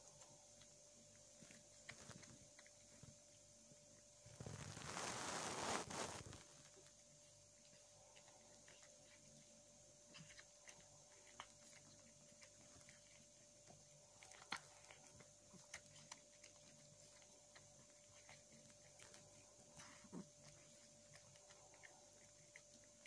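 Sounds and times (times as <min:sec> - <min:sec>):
cat chewing wet food: 0:00.0 - 0:23.0.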